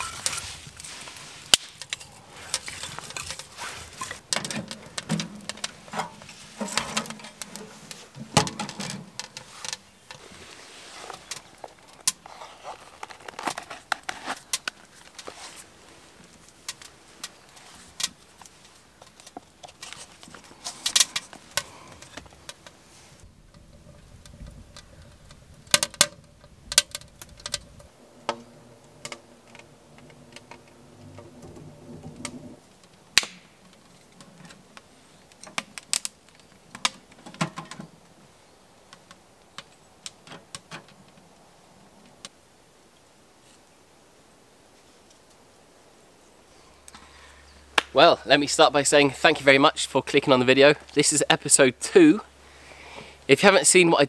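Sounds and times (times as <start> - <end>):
faint steady multi-tone hum: 0.0 - 54.0.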